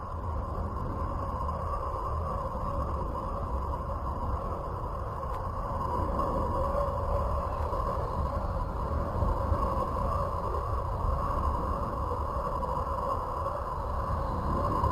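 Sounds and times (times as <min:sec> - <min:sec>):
loud steady siren-like tone: 0:00.0 - 0:14.9.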